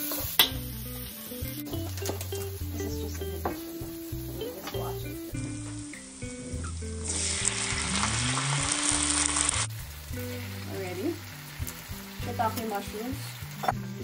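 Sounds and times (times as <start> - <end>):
background music with bass: 0.0 - 14.0
food sizzling in hot oil: 0.0 - 14.0.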